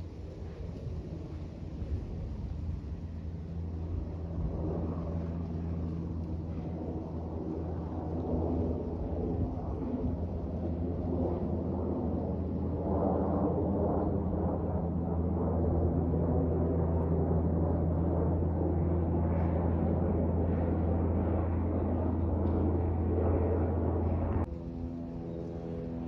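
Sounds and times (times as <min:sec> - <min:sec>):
airplane flying overhead: 0:00.0 - 0:26.0.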